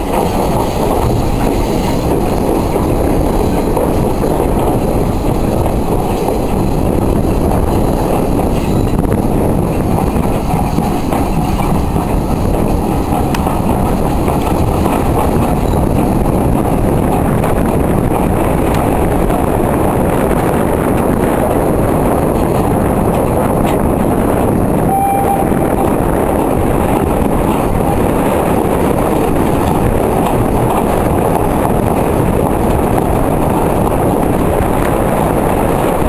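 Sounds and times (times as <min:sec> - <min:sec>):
train running on track: 0:00.0 - 0:36.0
wind noise on microphone: 0:00.0 - 0:36.0.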